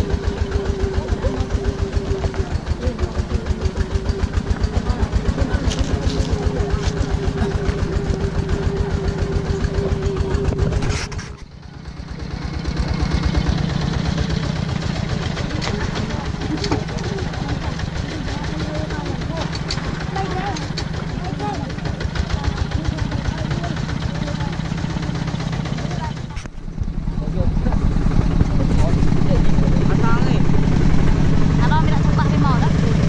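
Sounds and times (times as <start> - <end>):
diesel engine chugging: 0.0 - 33.0
steady whine: 0.0 - 33.0.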